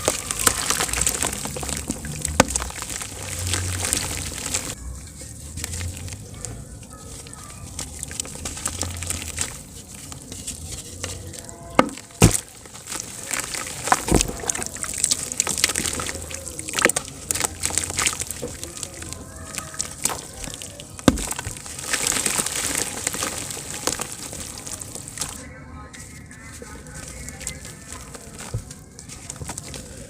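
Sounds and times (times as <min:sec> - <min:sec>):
dirt crumbling in water: 0:00.0 - 0:04.8, 0:05.5 - 0:25.5, 0:26.4 - 0:30.0.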